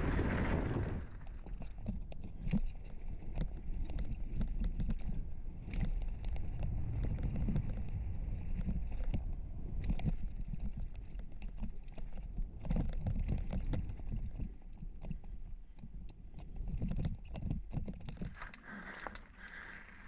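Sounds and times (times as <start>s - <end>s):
wind rumble on microphone: 0.0s - 19.6s.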